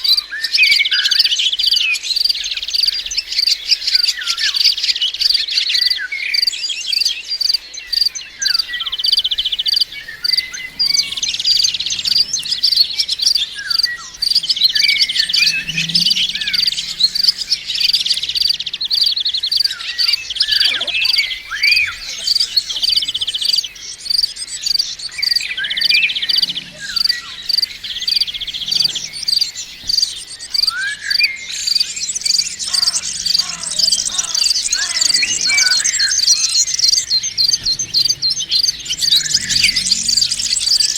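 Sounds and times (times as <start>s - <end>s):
songbirds chirping and trilling: 0.0s - 40.9s
steady high ticking: 7.4s - 40.9s.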